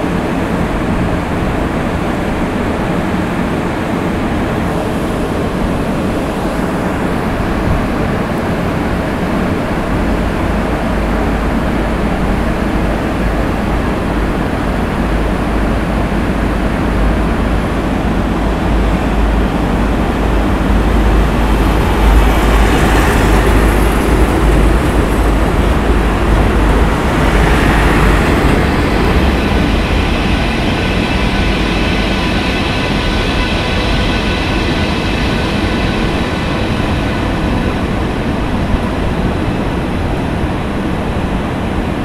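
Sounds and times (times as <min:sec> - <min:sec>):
train wheels rumbling on rails: 0:00.0 - 0:42.0
passing train hiss: 0:00.1 - 0:41.8.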